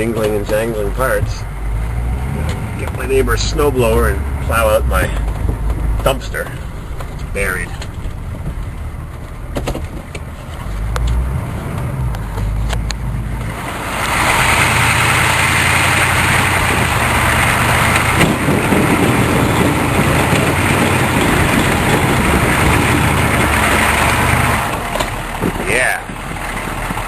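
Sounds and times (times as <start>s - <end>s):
truck engine running: 0.0s - 27.0s
steady rushing noise: 0.9s - 27.0s.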